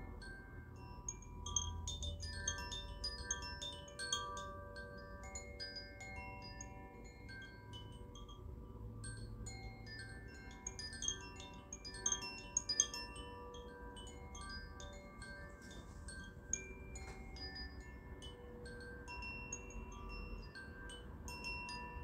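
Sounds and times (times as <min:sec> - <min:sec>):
chimes tinkling: 0:00.0 - 0:22.0.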